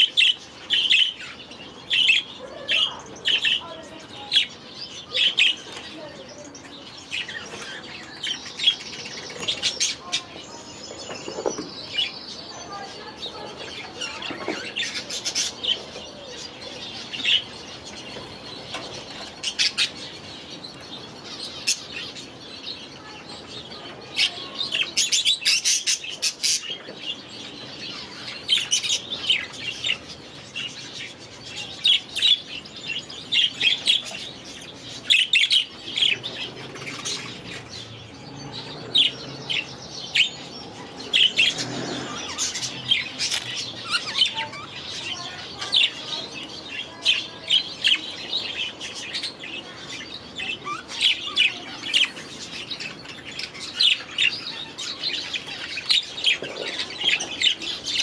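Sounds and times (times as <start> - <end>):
budgies chirping and chattering: 0.0 - 58.0.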